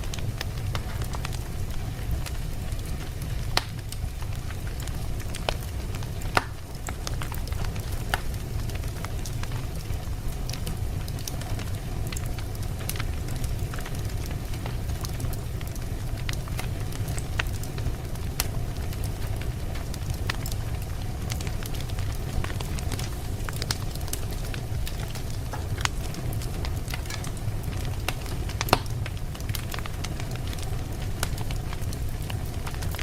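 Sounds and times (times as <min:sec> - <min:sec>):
fire crackling and popping: 0:00.0 - 0:33.0
wood fire rumbling: 0:00.0 - 0:33.0.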